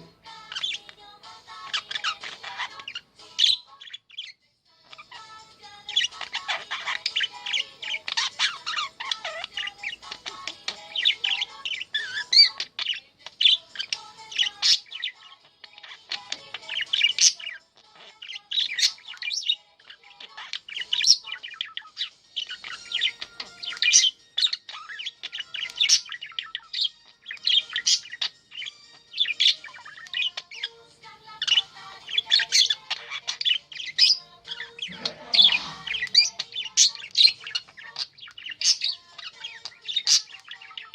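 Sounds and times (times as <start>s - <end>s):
budgerigar chattering: 0.0s - 0.9s, 5.8s - 40.9s.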